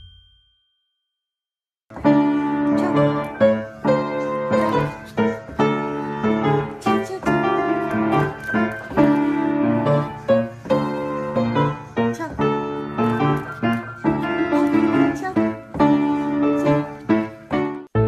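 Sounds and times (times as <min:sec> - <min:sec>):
piano playing: 0:01.9 - 0:18.0.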